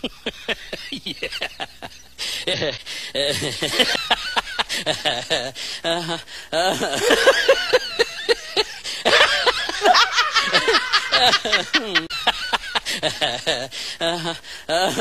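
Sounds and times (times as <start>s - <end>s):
person laughing: 0.0s - 15.0s.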